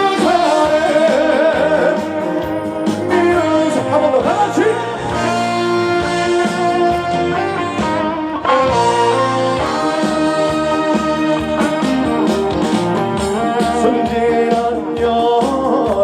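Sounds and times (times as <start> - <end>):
live band instrumental: 0.0 - 16.0.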